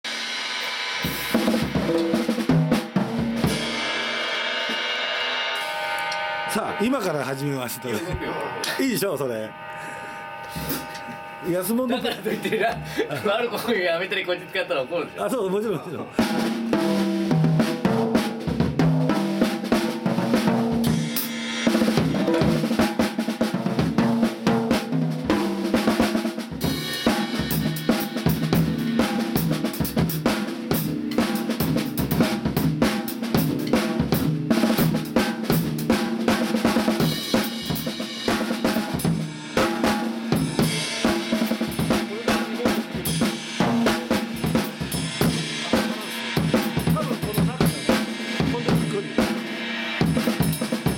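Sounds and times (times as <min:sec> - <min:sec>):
drum kit groove: 0:00.0 - 0:50.9.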